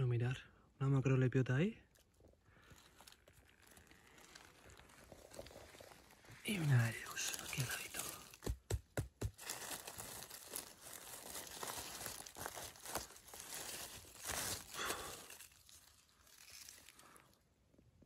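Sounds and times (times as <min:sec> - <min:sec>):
dry leaf litter crackling: 0:01.9 - 0:08.5, 0:09.3 - 0:17.4.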